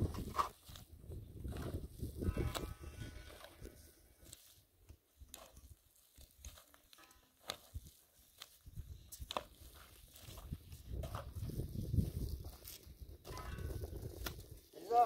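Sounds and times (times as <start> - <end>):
shovel digging stony soil: 0.0 - 4.6, 5.2 - 15.0.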